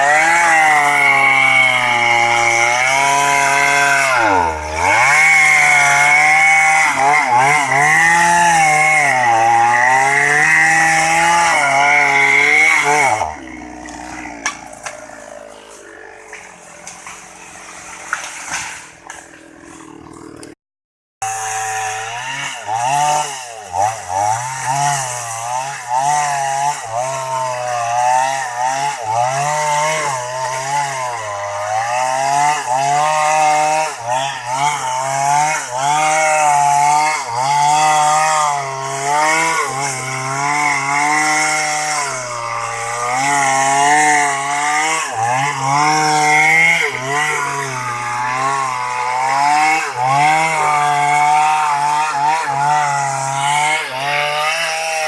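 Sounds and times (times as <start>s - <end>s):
chainsaw cutting wood: 0.0s - 20.6s, 21.2s - 55.0s.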